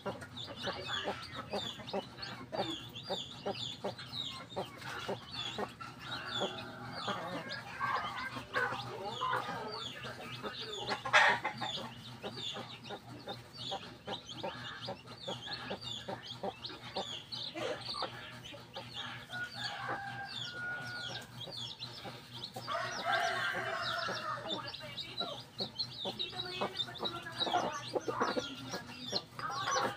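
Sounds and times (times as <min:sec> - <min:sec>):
chicks peeping: 0:00.0 - 0:29.9
hen clucking: 0:00.0 - 0:29.9.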